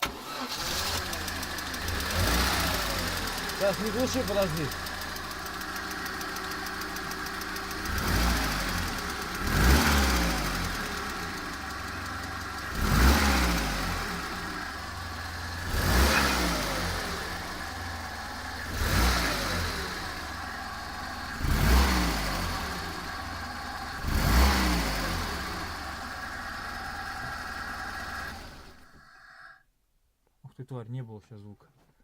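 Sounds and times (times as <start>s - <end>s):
petrol engine idling and revving: 0.0s - 29.0s
engine knocking: 0.8s - 28.8s.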